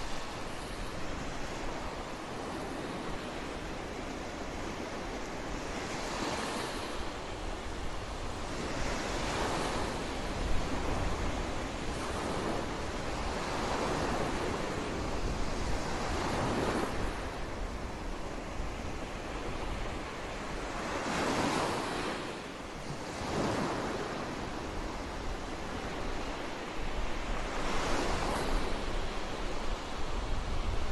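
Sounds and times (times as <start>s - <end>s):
waves breaking on shore: 0.0s - 30.9s
wind buffeting microphone: 0.0s - 30.9s.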